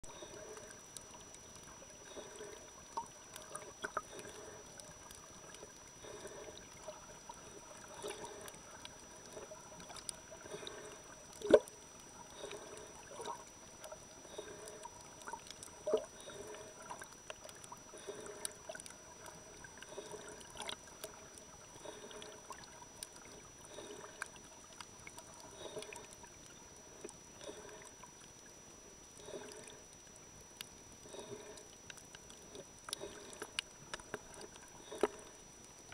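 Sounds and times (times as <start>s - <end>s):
muffled underwater sloshing: 0.0s - 35.9s
faint clicks: 0.1s - 35.9s.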